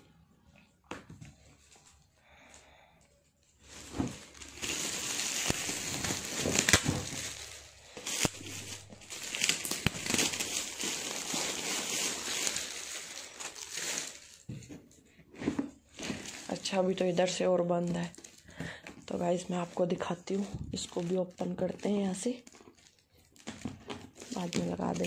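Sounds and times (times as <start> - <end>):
foil gift wrap crinkling and tearing: 3.6 - 14.5, 15.8 - 25.0.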